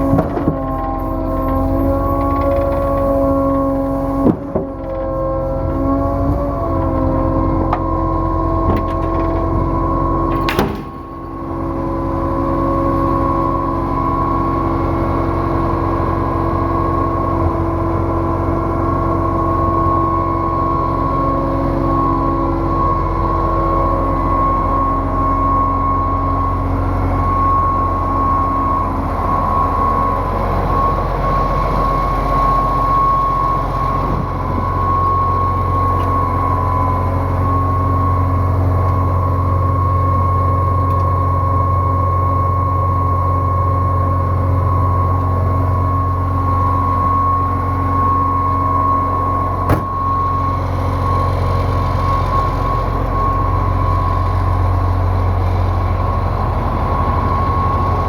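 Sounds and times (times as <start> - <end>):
pump truck engine hum and whine: 0.0 - 58.0.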